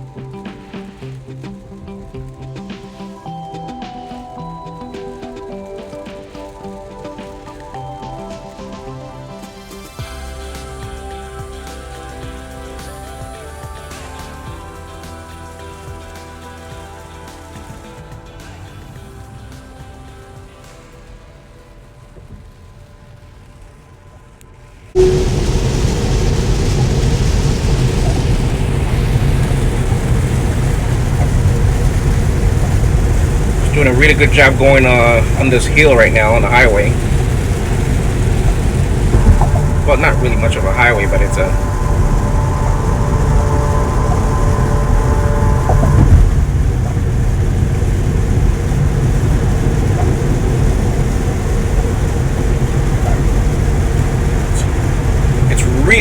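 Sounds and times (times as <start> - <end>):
low road rumble: 0.0 - 56.0
rain on car: 0.0 - 56.0
tyres hissing on wet road: 0.0 - 56.0.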